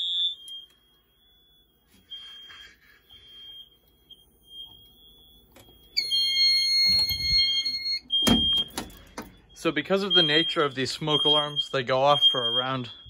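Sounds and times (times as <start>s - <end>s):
shrill alarm tone: 0.0s - 13.0s
smoke alarm beeps: 0.0s - 13.0s.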